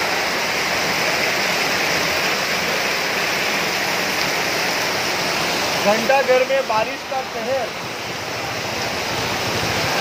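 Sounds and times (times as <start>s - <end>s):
floodwater flowing: 0.0s - 10.0s
heavy downpour: 0.0s - 10.0s.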